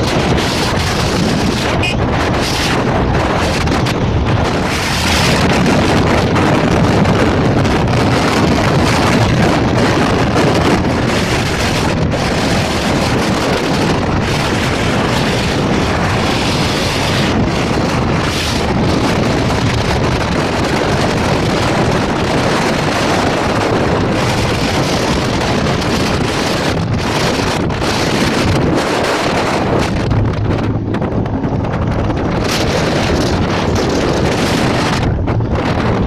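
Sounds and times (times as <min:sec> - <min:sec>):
motorbike road noise: 0:00.0 - 0:36.0
wind rushing over microphone: 0:00.0 - 0:36.0.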